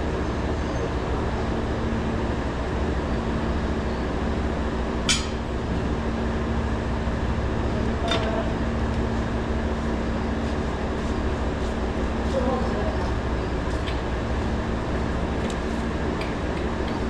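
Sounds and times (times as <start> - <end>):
low machine hum and rumble: 0.0 - 17.0.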